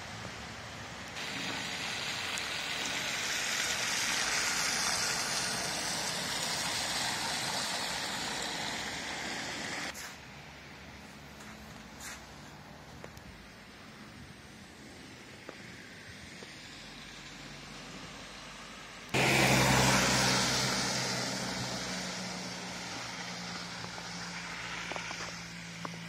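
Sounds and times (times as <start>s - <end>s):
car tyres hissing through slush: 0.1s - 26.0s.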